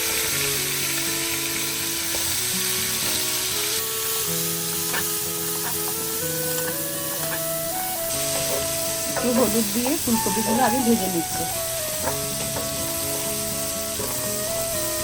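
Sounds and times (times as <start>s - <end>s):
cauliflower sizzling in hot oil: 0.0s - 15.0s.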